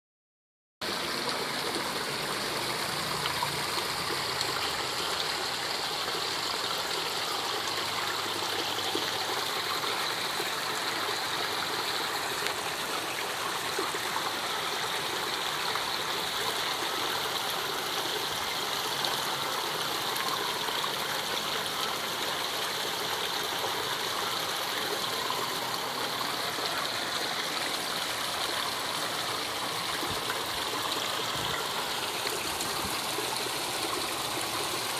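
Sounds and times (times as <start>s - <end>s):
water trickling into a pond: 0.8s - 34.9s.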